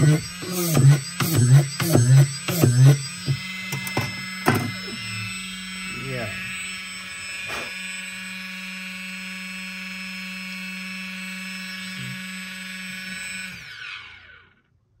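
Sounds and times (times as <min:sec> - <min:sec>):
drill motor whining: 0:00.0 - 0:14.8.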